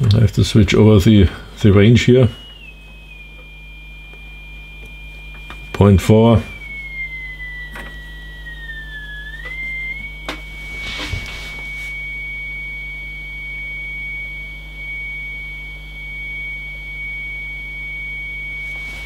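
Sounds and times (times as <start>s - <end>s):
steady test tone: 0.4s - 19.0s.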